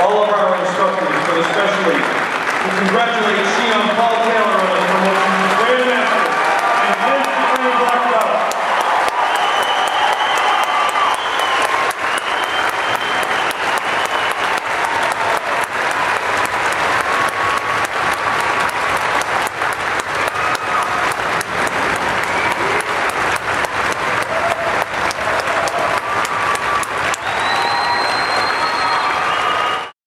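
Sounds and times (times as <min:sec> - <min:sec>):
large crowd applauding: 0:00.0 - 0:30.0.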